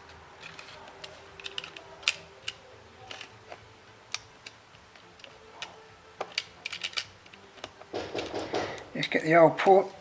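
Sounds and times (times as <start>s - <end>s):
small metal tools clicking: 0.4s - 9.4s.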